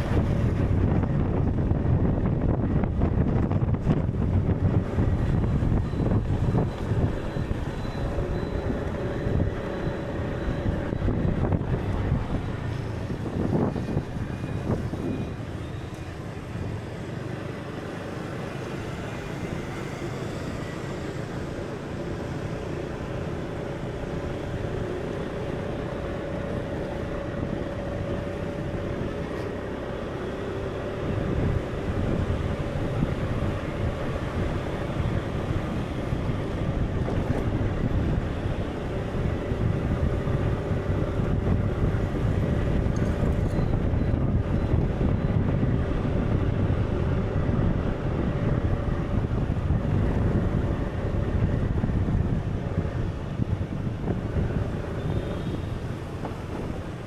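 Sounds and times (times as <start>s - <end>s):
steady low rumbling noise: 0.0s - 15.6s, 20.5s - 57.0s.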